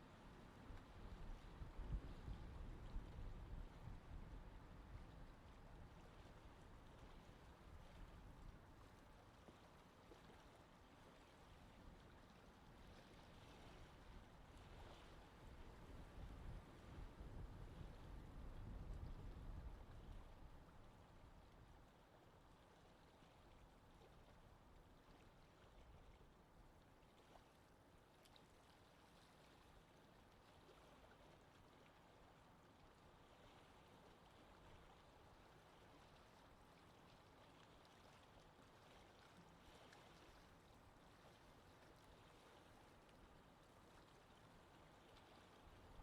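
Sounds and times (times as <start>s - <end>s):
faint water ambience: 0.0s - 46.0s.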